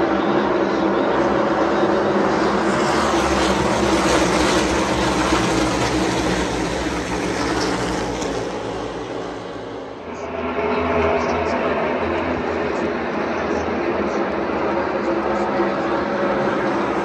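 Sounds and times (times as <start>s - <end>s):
race cars engine drone: 0.0s - 17.0s.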